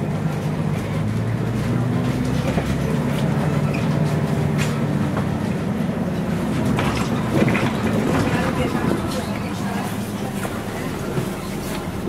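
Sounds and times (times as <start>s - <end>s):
bus body clicks and rattles: 0.0s - 12.0s
bus diesel engine droning: 0.0s - 12.0s.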